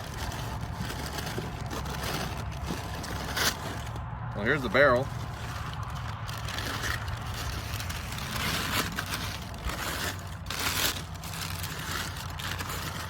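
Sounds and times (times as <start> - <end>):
low traffic rumble: 0.0 - 13.0
packaging crinkling and rustling: 0.0 - 13.0.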